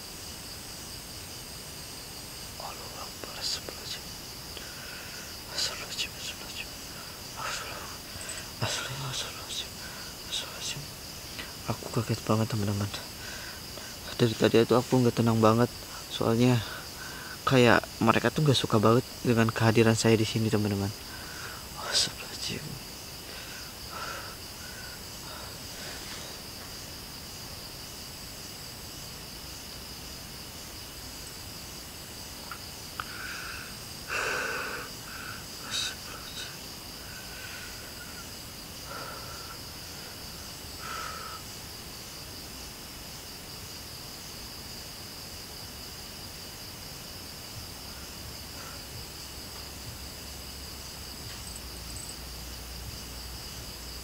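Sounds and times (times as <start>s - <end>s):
crickets chirring: 0.0s - 54.0s.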